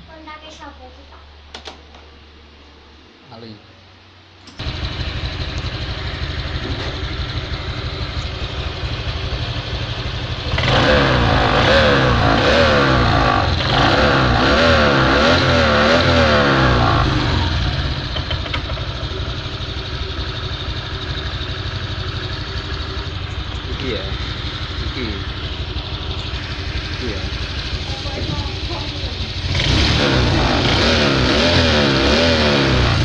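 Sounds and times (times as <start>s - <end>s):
scooter engine revving: 4.6s - 33.0s.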